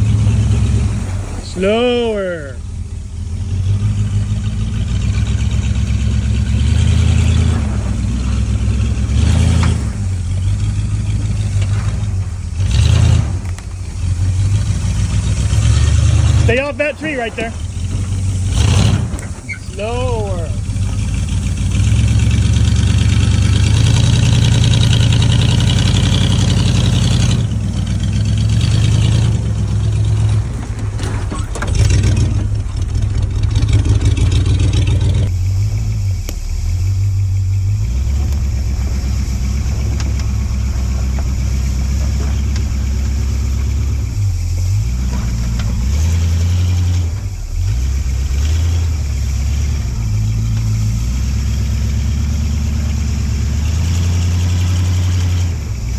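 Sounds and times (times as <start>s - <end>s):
truck engine at low revs: 0.0s - 55.9s.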